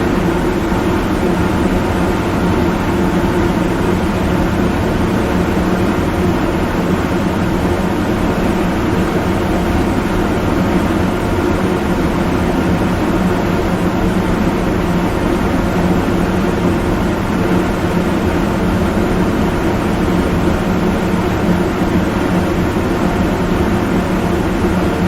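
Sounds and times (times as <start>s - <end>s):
loud rumbling with low hum: 0.0s - 25.0s.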